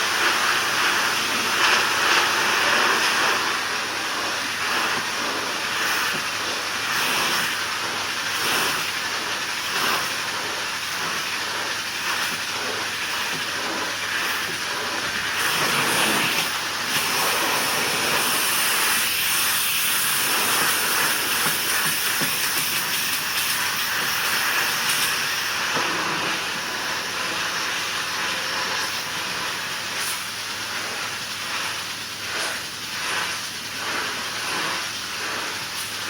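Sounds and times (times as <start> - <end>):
pressure washer spraying wooden deck: 0.0 - 36.0.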